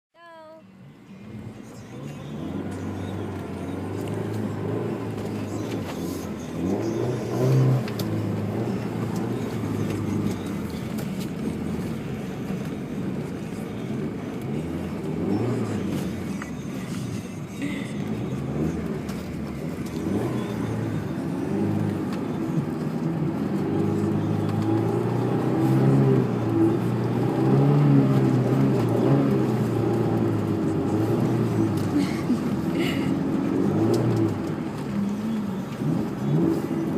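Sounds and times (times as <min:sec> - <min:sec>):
car engine revving: 0:01.2 - 0:36.9.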